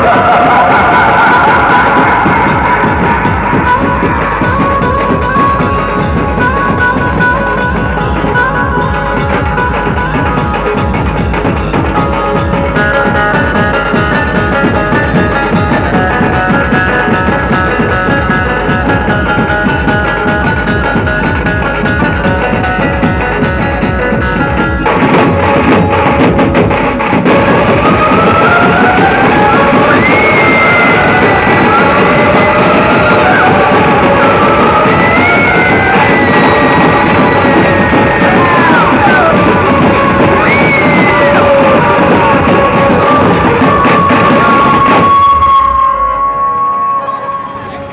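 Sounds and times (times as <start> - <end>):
driving drumming: 0.0 - 46.2
band music: 0.0 - 47.9
sliding lead melody: 0.0 - 47.9.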